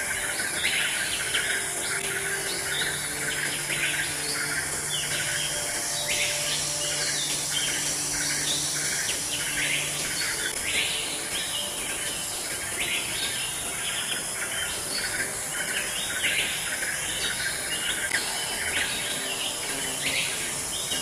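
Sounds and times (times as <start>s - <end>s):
birds chirping: 0.0s - 21.0s
steady high hiss: 0.0s - 21.0s.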